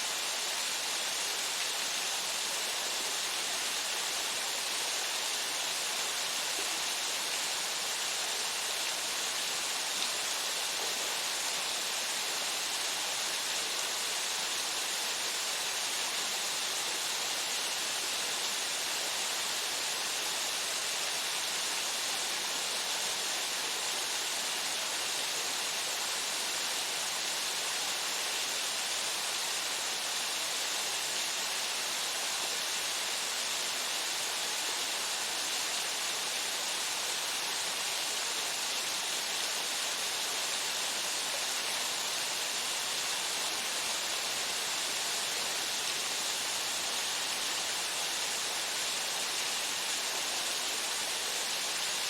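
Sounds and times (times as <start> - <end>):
waterfall into pool: 0.0 - 52.0.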